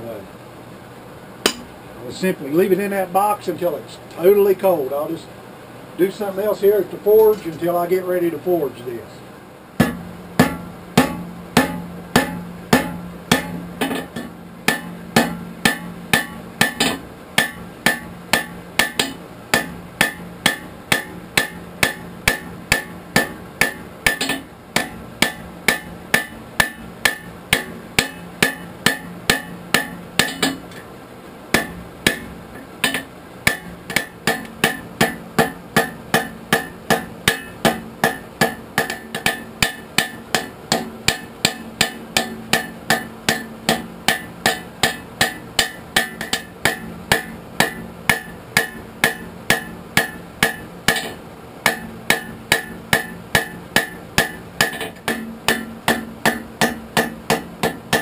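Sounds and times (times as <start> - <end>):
steady low hum: 0.0 - 58.0
hammer striking steel on anvil: 1.4 - 1.7, 9.8 - 30.9, 31.5 - 58.0.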